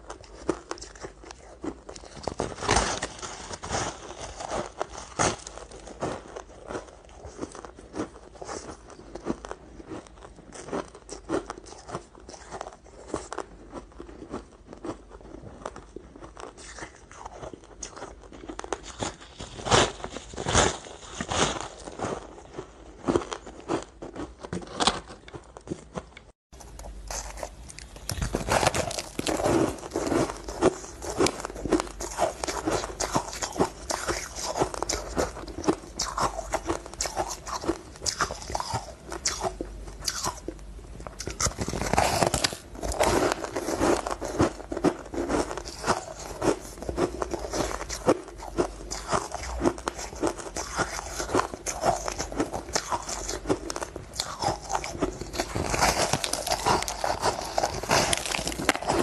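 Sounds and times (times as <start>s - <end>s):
crunching frozen ice: 0.0s - 25.7s, 26.6s - 59.0s.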